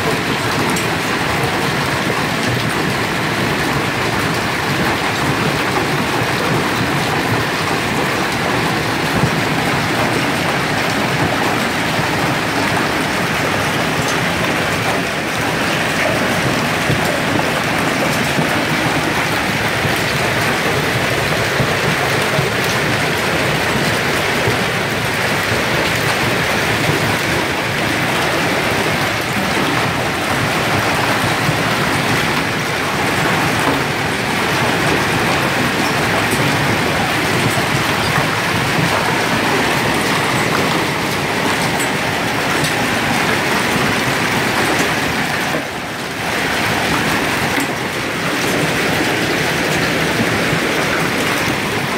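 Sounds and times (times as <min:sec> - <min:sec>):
hail clattering on cars: 0:00.0 - 0:51.9.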